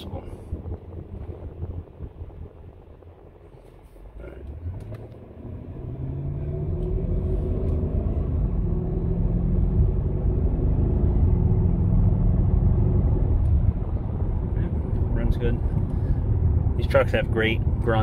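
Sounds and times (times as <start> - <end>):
car engine accelerating: 0.5 - 18.0.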